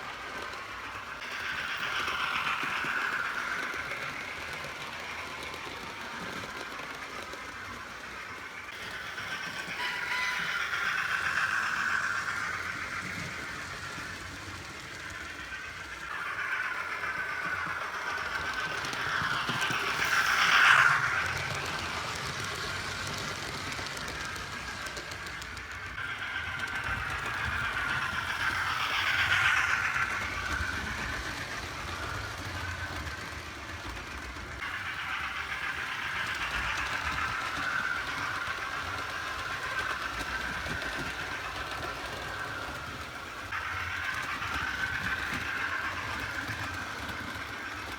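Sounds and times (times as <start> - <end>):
model steam locomotive running: 0.0 - 47.9.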